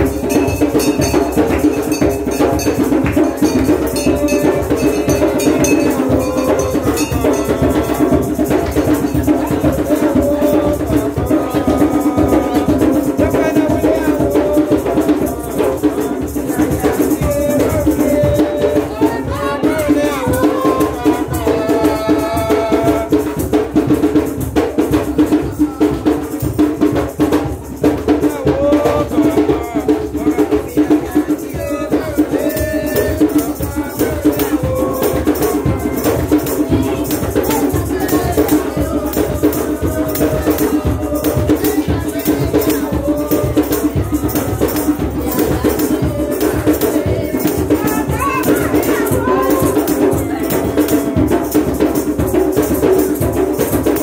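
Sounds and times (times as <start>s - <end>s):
congregation singing: 0.0s - 23.9s, 27.8s - 54.0s
shakers keeping rhythm: 0.0s - 54.0s.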